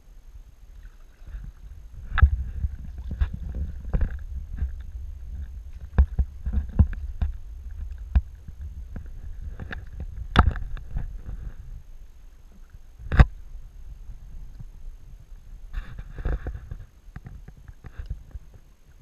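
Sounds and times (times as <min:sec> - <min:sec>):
low rumble: 0:01.3 - 0:18.5.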